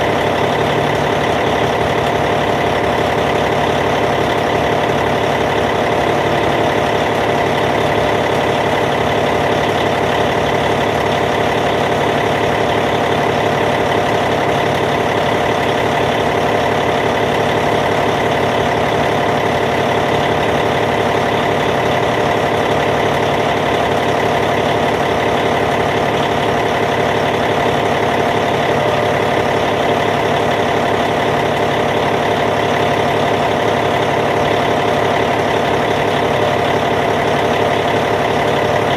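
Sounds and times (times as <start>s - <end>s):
bulldozer diesel engine idling: 0.0s - 38.9s.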